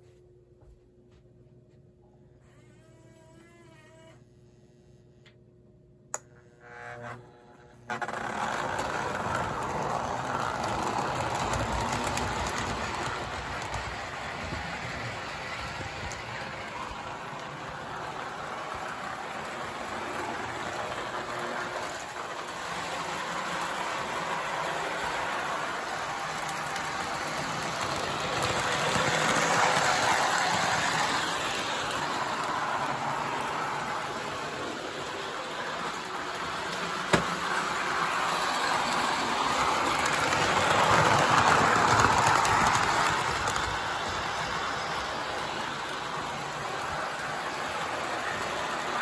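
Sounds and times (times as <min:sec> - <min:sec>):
model train rumbling on track: 0:07.9 - 0:49.0.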